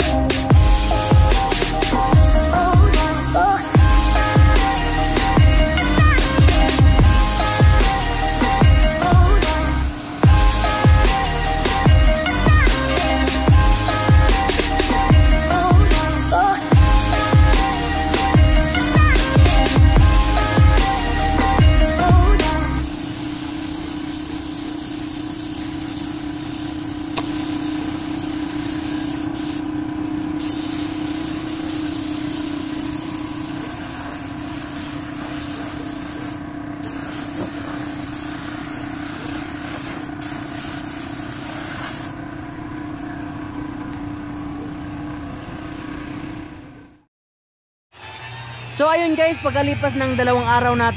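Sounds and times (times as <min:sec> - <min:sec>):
spray gun hissing: 0:00.0 - 0:42.5
steady low hum: 0:00.0 - 0:47.1.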